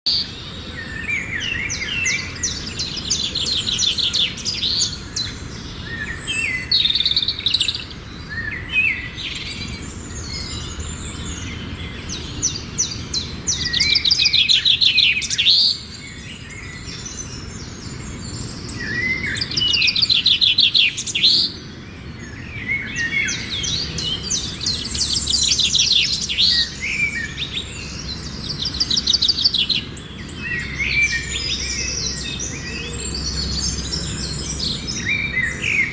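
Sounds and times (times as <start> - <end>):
songbirds trilling and chirping: 0.1 - 35.9.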